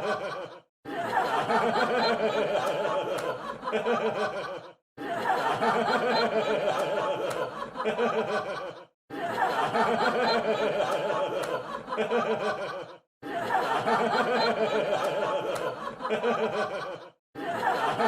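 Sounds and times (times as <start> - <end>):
crowd laughing: 0.0 - 18.0.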